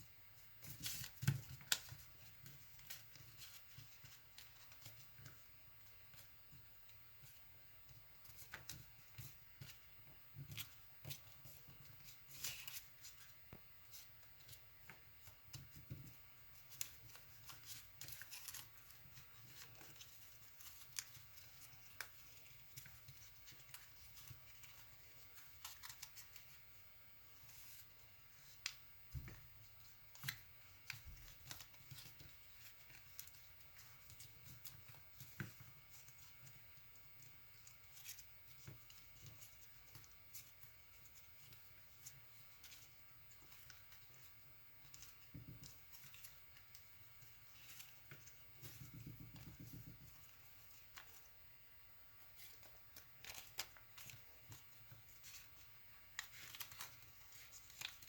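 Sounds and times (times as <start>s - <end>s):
paper being folded: 0.6s - 51.5s, 52.1s - 58.0s.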